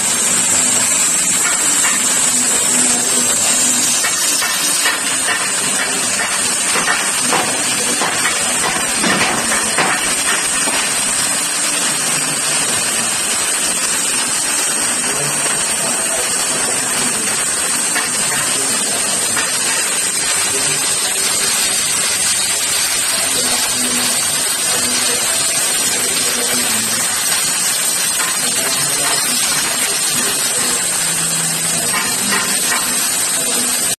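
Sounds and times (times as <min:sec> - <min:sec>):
cutting torch hissing: 0:00.0 - 0:33.9.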